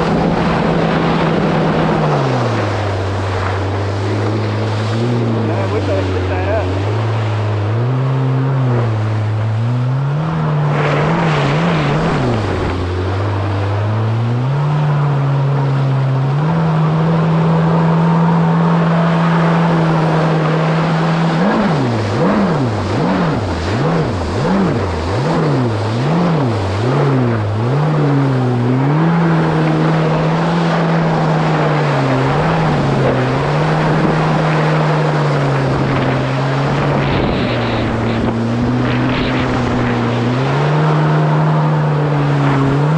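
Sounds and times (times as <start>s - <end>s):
jet ski engine revving: 0.0s - 42.9s
water rushing past hull: 0.0s - 42.9s.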